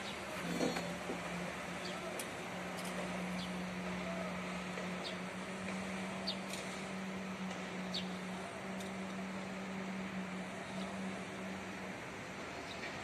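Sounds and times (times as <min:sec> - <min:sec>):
low machinery drone: 0:00.0 - 0:13.0.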